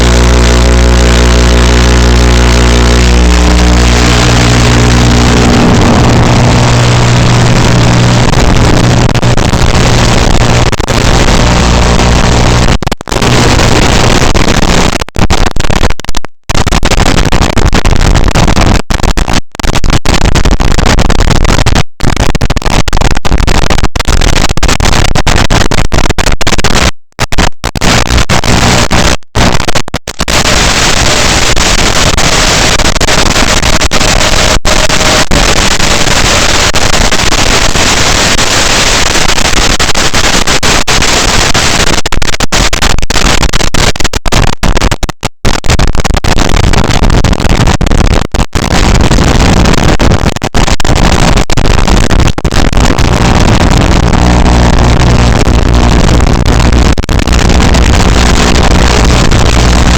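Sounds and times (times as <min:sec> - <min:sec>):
video-link static hiss: 0:00.0 - 0:59.9.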